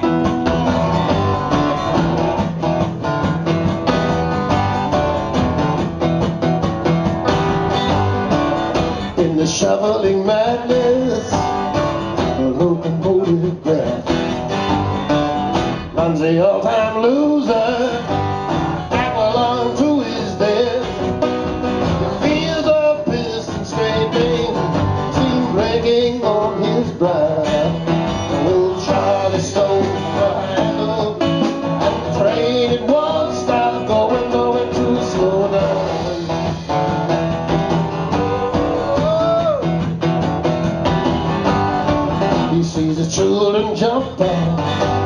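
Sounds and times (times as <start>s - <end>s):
acoustic guitars strummed: 0.0s - 45.0s
drum kit: 0.0s - 45.0s.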